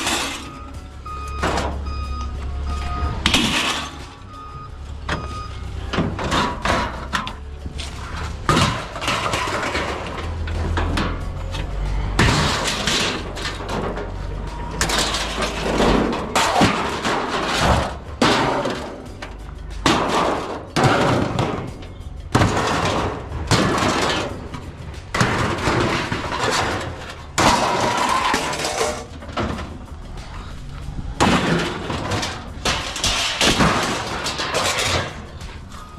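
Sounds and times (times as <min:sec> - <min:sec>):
scrap metal clattering onto pile: 0:00.0 - 0:02.0, 0:02.8 - 0:04.5, 0:05.1 - 0:35.9.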